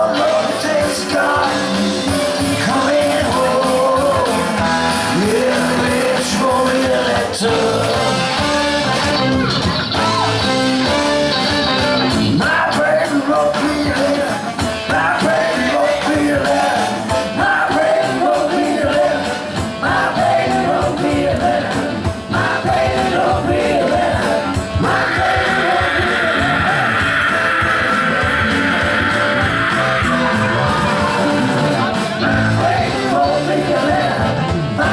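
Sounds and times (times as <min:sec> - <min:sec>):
rock band playing: 0:00.0 - 0:34.9.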